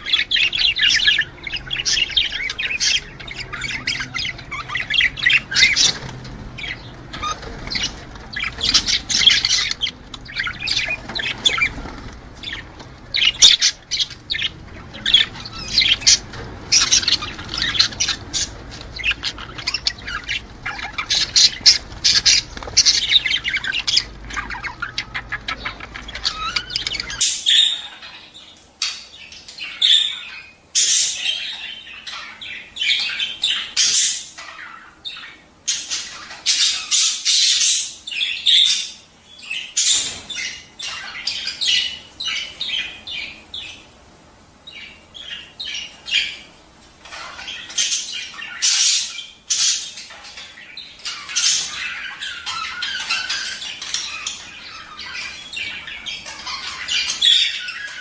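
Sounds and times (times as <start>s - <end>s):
budgerigars chattering: 0.0s - 44.0s, 44.6s - 58.0s
low background hum: 0.0s - 58.0s.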